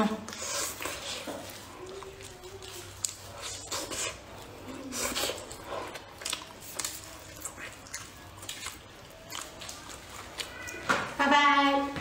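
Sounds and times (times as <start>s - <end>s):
chewing and lip-smacking: 0.1s - 10.9s.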